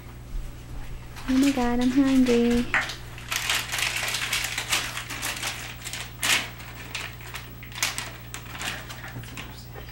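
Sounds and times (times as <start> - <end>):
dry kibble rustling and rattling: 1.1 - 9.9.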